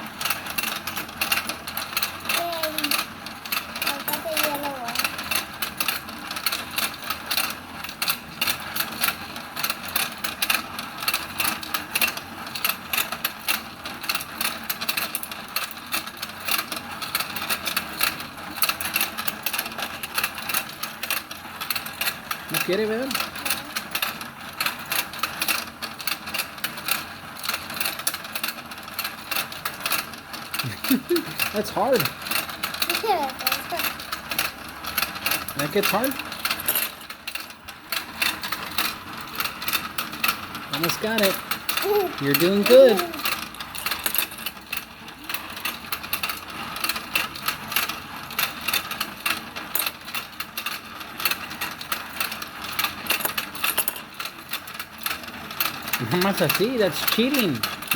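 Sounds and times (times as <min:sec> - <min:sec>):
toy motor whirring: 0:00.0 - 0:57.9
plastic gear clicks: 0:00.1 - 0:57.9.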